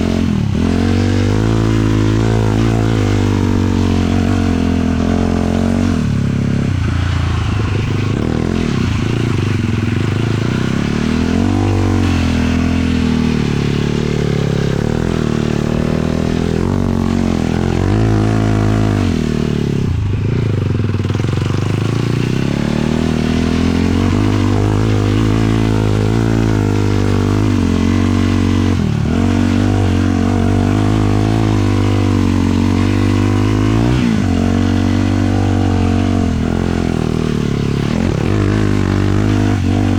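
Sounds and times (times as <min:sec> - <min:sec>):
quad engine revving under load: 0:00.0 - 0:39.9.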